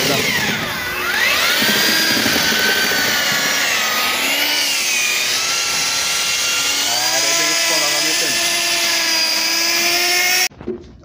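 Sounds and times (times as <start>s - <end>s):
electric drill motor whine: 0.0s - 10.5s.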